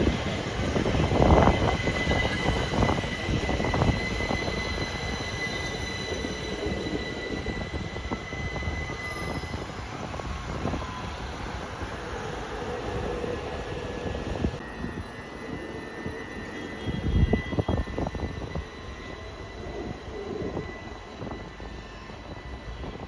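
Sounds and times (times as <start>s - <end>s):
high-pitched wheel squeal: 0.0s - 23.0s
train rumbling on rails: 0.0s - 23.0s.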